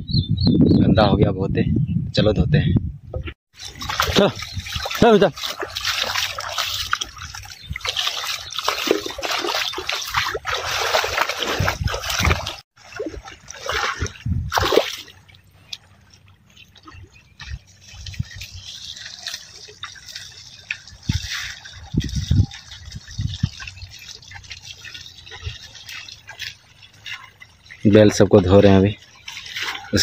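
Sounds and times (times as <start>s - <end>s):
splashing in muddy water: 3.5s - 30.0s
water trickling: 3.6s - 30.0s.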